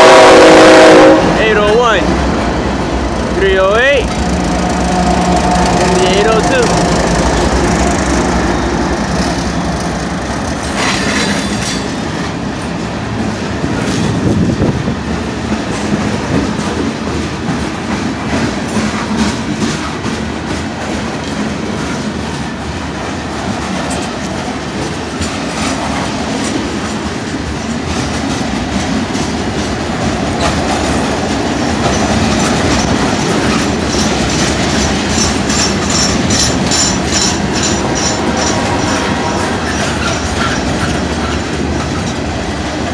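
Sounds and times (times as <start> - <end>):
train wheels clacking over joints: 4.0 - 12.4, 15.1 - 22.6, 23.2 - 42.4.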